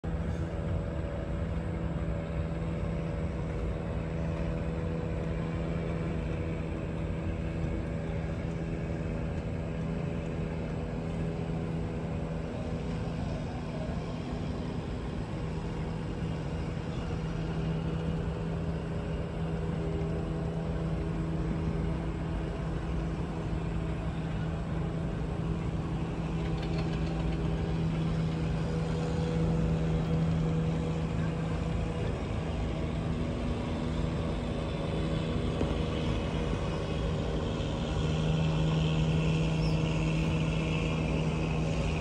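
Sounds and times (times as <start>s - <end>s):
motor droning: 0.0s - 42.0s.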